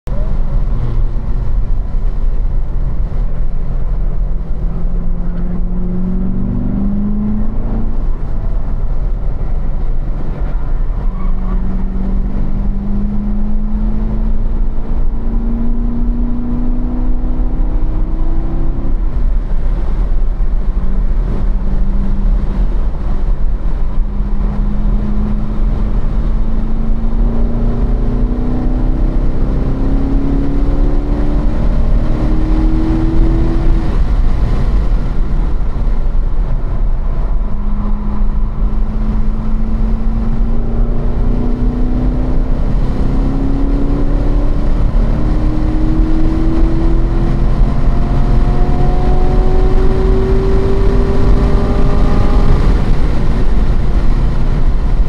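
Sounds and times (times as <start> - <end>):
car engine accelerating: 0.0 - 55.0
low road rumble: 0.0 - 55.0.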